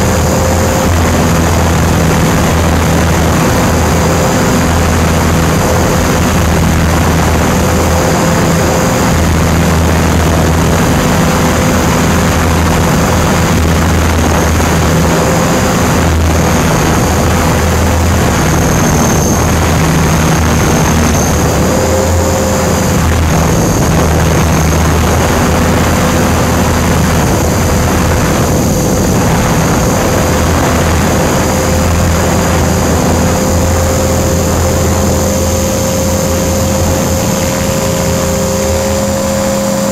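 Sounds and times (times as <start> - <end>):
helicopter rotor and motor whine: 0.0 - 39.9
wind rush on microphone: 0.0 - 39.9.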